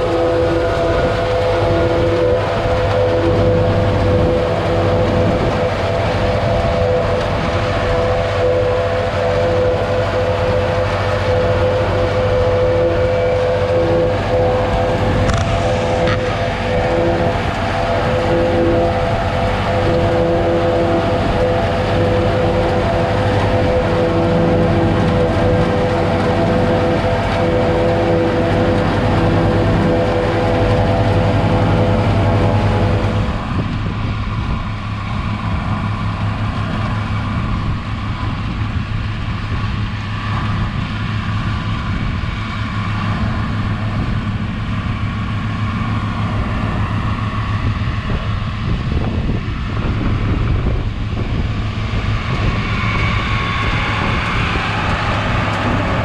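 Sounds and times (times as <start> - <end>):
harvesting machinery running: 0.0 - 56.0
tractor engine hum: 0.0 - 56.0.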